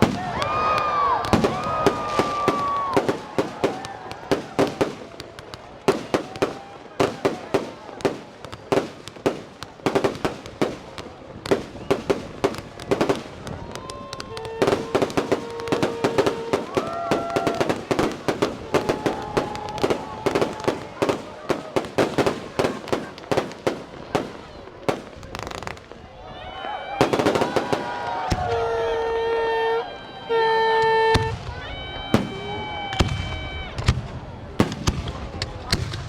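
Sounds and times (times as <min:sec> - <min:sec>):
fireworks bangs and crackles: 0:00.0 - 0:36.0.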